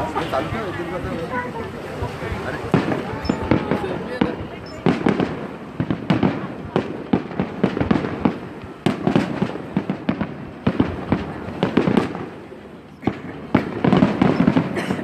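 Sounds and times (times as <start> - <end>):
fireworks crackle: 0.0 - 14.7
fireworks bangs: 0.0 - 14.8.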